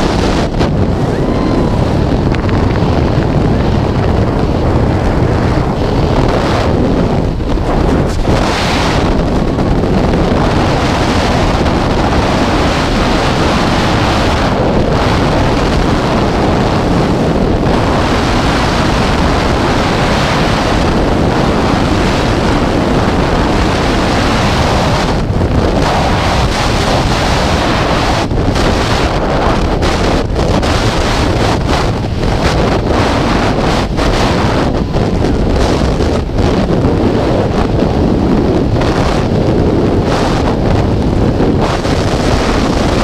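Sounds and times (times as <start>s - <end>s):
freefall wind buffeting microphone: 0.0s - 43.0s.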